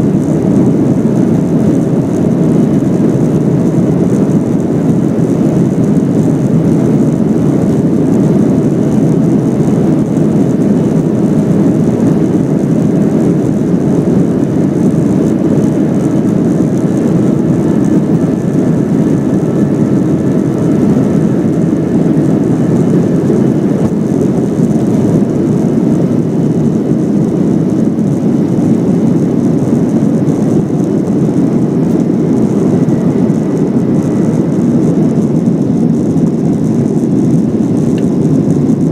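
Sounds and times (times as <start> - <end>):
jet engines rumbling at takeoff: 0.0 - 38.9.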